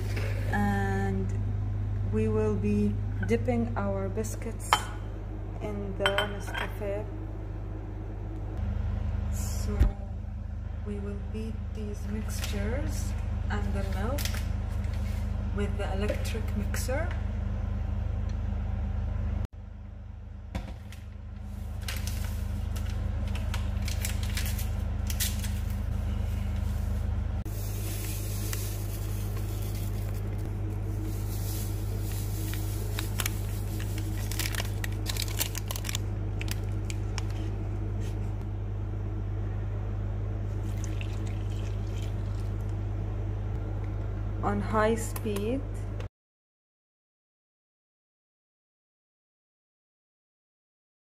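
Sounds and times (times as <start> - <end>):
steady low hum: 0.0 - 46.1.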